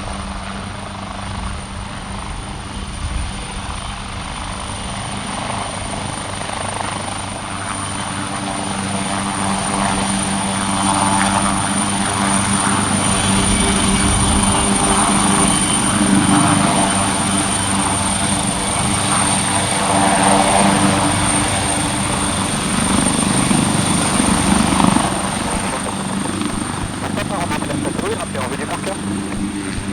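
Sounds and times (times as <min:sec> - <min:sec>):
helicopter rotor and engine noise: 0:00.2 - 0:29.8.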